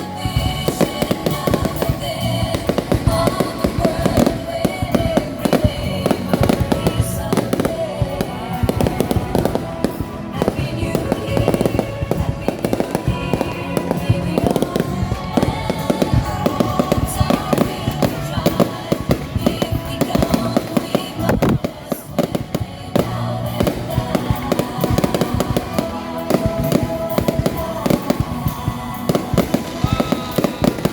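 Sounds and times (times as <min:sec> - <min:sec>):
fireworks bangs and crackles: 0:00.0 - 0:30.9
music playing: 0:00.0 - 0:30.9.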